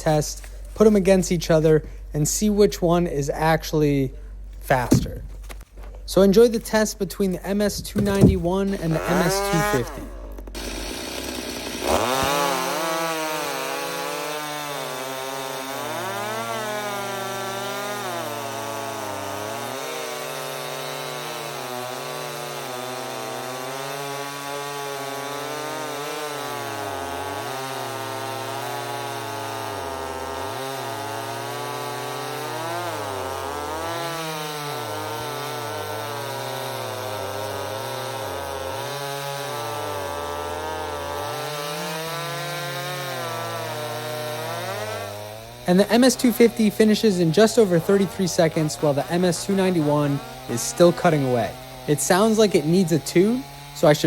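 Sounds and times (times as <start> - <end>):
chainsaws cutting wood: 4.2 - 54.0.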